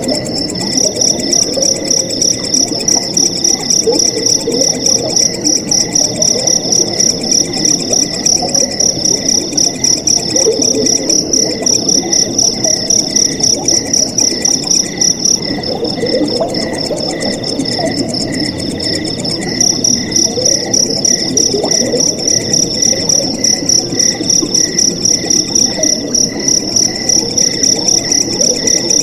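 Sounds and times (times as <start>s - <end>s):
crickets chirping in a fast trill: 0.0s - 29.0s
flowing water babbling: 0.0s - 29.0s
slower pulsing insect call: 0.0s - 29.0s.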